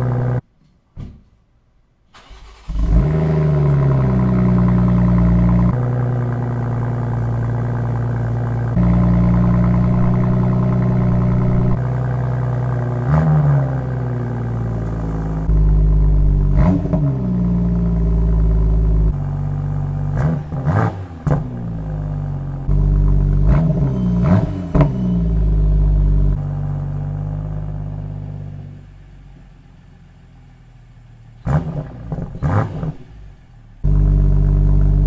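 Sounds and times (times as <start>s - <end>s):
engine throttle blips: 2.2s - 29.5s, 30.3s - 35.0s
car engine idling: 2.2s - 35.0s.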